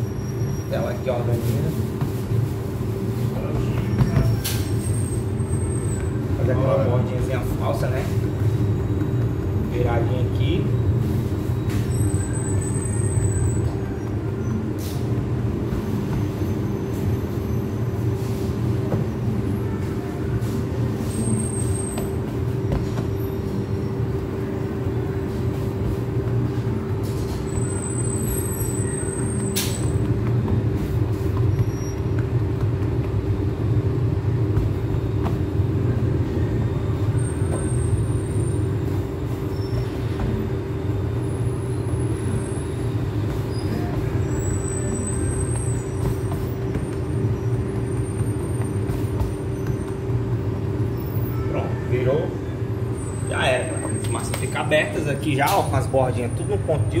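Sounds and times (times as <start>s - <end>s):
constant hum: 0.0s - 57.0s
low machine drone: 2.5s - 54.3s.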